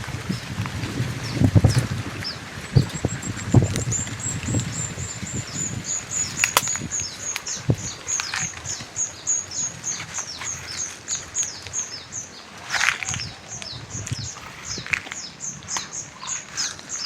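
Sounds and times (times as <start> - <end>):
small bird chirping: 1.2 - 17.0.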